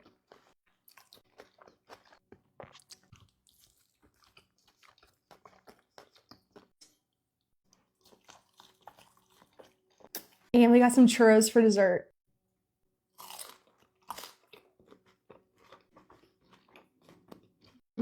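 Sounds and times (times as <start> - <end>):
person chewing food: 0.0 - 10.5, 13.2 - 17.9.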